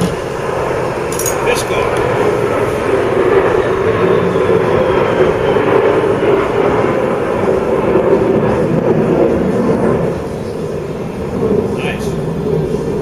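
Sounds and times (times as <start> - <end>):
electric buffer running: 0.0 - 13.0.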